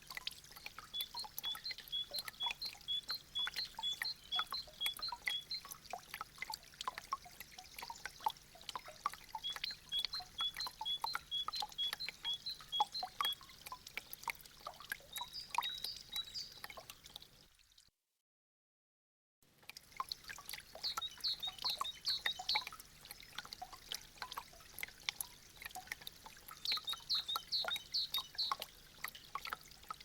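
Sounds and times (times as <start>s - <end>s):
water dripping from icicles: 0.0s - 17.8s, 19.4s - 30.0s.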